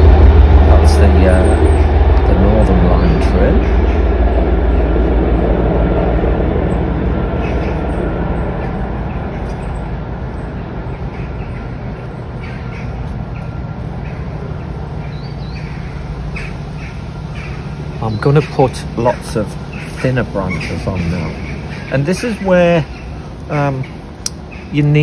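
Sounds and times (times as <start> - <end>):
underground train rumbling: 0.0 - 25.0.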